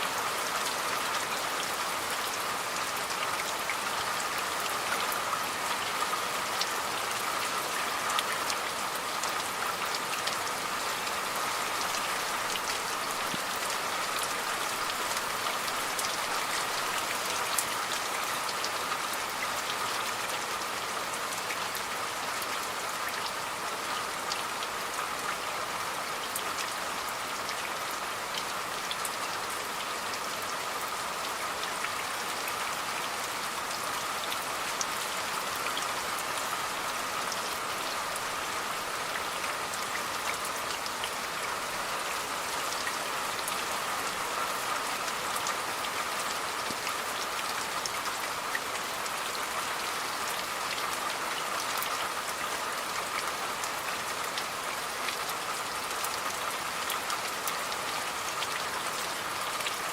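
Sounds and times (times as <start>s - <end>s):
rain falling: 0.0s - 59.9s
raindrops ticking on a surface: 0.1s - 59.9s.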